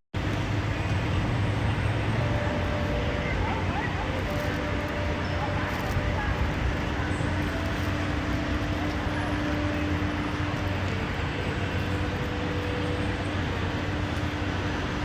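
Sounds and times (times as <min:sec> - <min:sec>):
mechanical rumble: 0:00.2 - 0:15.0.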